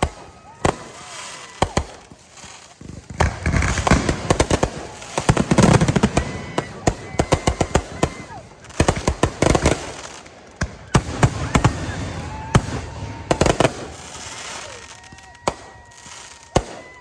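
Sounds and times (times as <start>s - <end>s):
fireworks bursting in sharp bangs: 0.0s - 17.0s
fireworks crackle: 0.0s - 17.0s
fireworks whistling: 0.0s - 17.0s.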